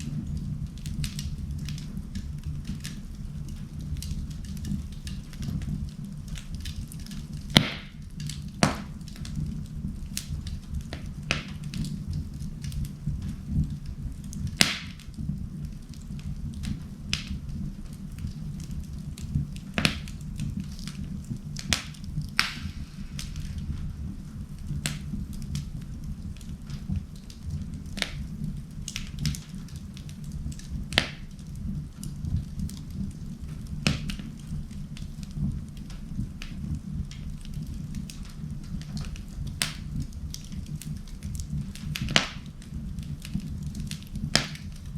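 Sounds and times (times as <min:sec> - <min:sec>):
fire crackling and popping: 0:00.0 - 0:44.9
fire flames rumbling: 0:00.0 - 0:44.9.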